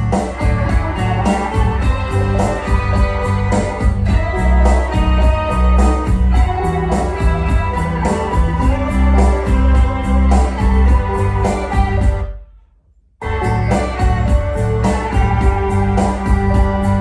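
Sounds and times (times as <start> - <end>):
organ: 0.0 - 12.3, 13.2 - 17.0
steady drum beat: 0.0 - 12.3, 13.2 - 17.0
heavy bass line: 0.0 - 12.5, 13.2 - 17.0
guitar: 0.0 - 12.6, 13.2 - 17.0.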